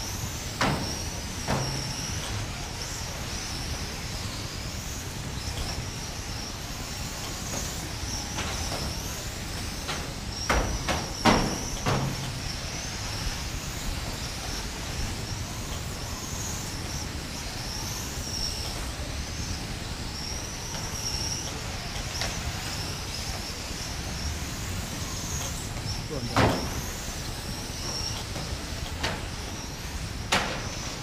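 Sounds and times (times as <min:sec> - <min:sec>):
rc car motors whining: 0:00.0 - 0:31.0.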